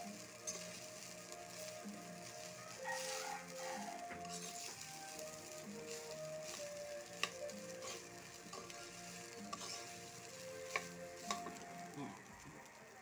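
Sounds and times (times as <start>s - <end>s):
background music with held notes: 0.0s - 13.0s
light sizzle: 0.0s - 13.0s
spatula scraping a metal wok: 0.2s - 11.7s.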